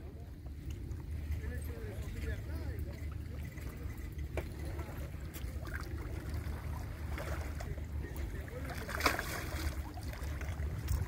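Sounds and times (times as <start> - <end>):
river water: 0.0 - 11.0
wind: 0.0 - 11.0.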